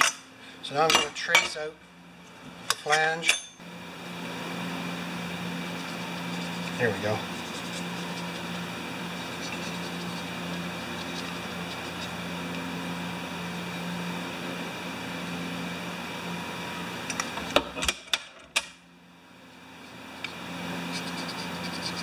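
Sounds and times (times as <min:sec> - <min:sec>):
steady fan-like hum: 0:00.0 - 0:22.0.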